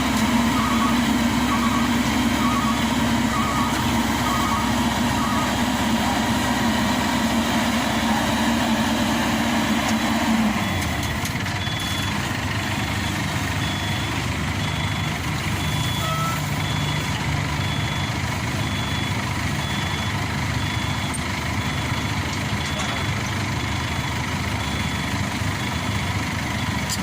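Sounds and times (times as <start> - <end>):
heavy machine engine running: 0.0 - 27.0
reversing alarm beeping: 0.2 - 9.0, 9.6 - 27.0.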